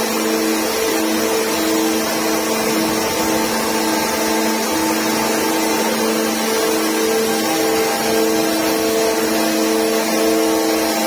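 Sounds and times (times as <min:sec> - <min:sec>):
drilling machine running: 0:00.0 - 0:11.0
two-pitch machine whine: 0:00.0 - 0:11.0.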